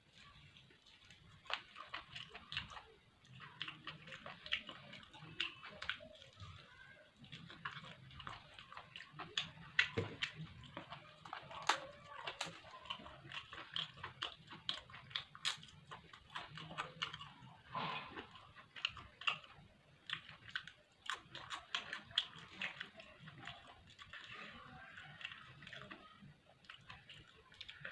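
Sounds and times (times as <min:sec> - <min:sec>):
chewing and mouth smacking: 0:00.1 - 0:27.9.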